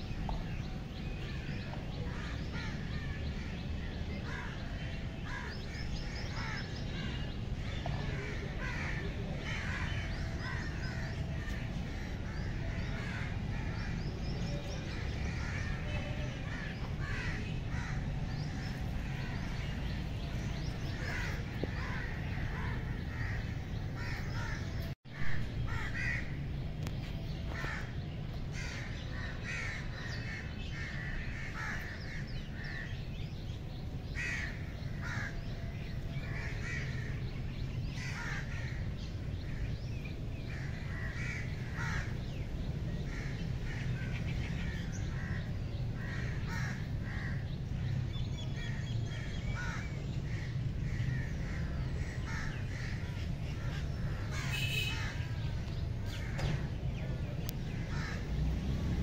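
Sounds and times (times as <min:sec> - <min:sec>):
birds calling: 0:00.0 - 0:59.0.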